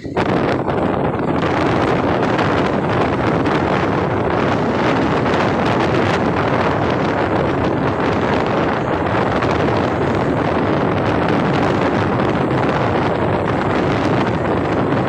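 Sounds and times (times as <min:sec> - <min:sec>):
train running on track: 0:00.0 - 0:15.0
wind buffeting microphone: 0:00.0 - 0:15.0.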